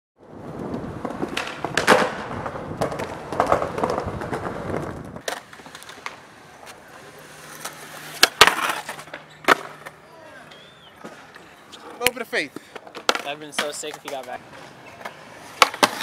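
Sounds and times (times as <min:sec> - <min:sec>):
skateboard rolling on concrete: 0:00.2 - 0:16.0
skateboard clacks: 0:00.5 - 0:06.8, 0:07.5 - 0:16.0.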